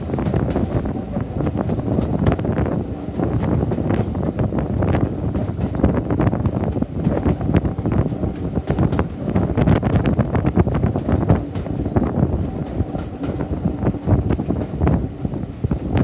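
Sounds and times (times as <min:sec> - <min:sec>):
train rumble: 0:00.0 - 0:16.0
train wheels clattering on track: 0:00.0 - 0:16.0
wind buffeting microphone: 0:00.0 - 0:16.0.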